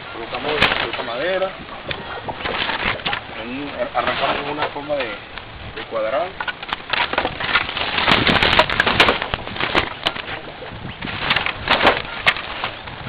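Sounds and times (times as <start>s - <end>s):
firewood pieces knocking together: 0.4s - 5.1s, 6.3s - 13.0s.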